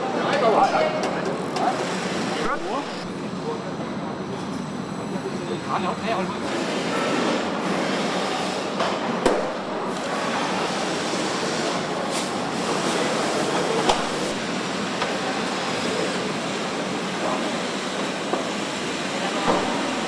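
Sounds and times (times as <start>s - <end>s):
machinery and air hiss: 0.6s - 20.0s.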